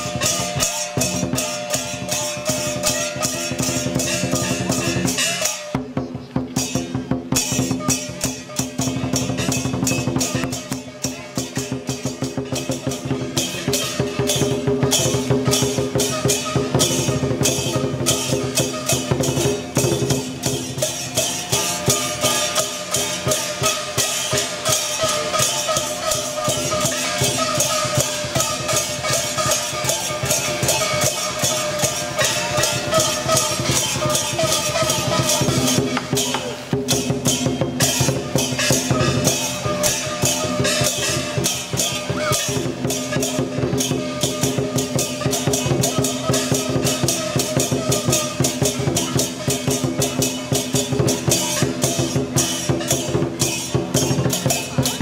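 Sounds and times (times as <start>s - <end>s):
cymbals clashing: 0.0s - 55.0s
drum beating fast rhythm: 0.0s - 55.0s.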